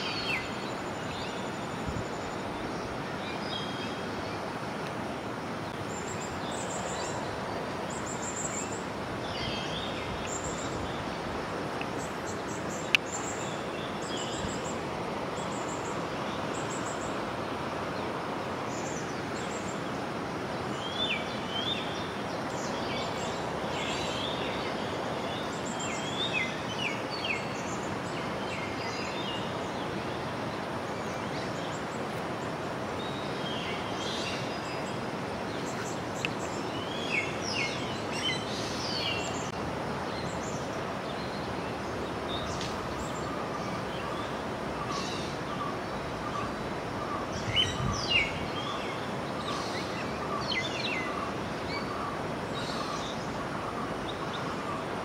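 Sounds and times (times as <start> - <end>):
birds chirping: 0.0 - 55.0
river water rushing: 0.0 - 55.0.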